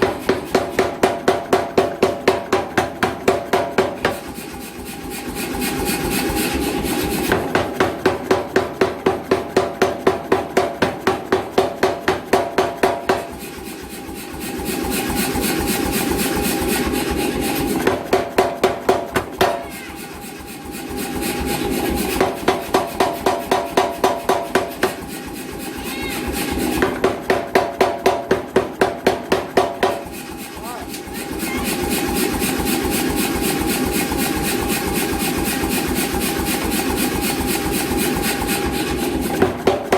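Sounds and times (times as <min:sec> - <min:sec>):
power hammer running: 0:00.0 - 0:39.9
rapid hammer blows on metal: 0:00.0 - 0:39.9.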